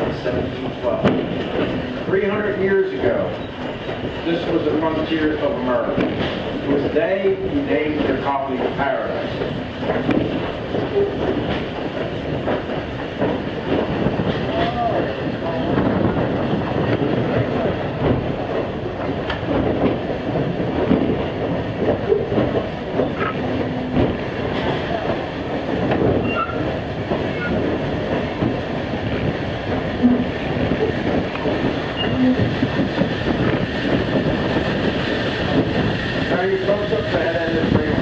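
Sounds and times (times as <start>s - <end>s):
train car rumbling on rails: 0.0s - 38.0s.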